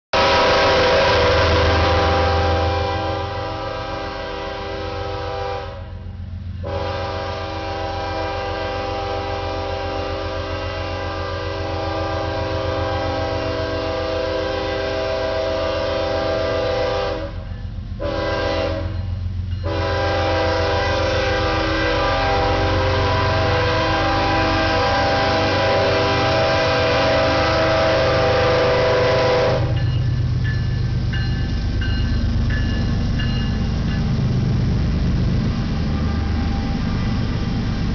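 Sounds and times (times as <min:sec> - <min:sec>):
locomotive engine rumble: 0:00.1 - 0:37.9
passing train clatter: 0:00.1 - 0:37.9
locomotive air horn: 0:00.2 - 0:29.8, 0:34.7 - 0:37.8.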